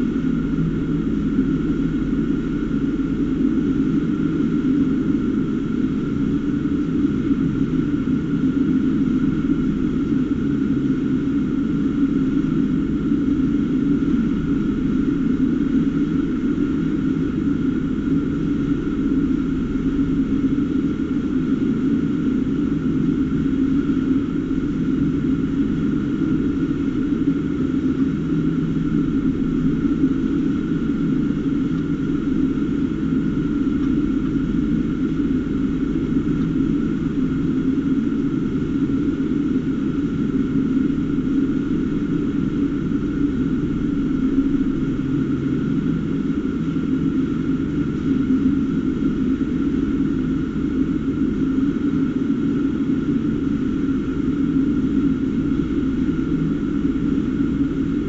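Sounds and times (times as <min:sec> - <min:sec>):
steady low drone: 0:00.0 - 0:58.0.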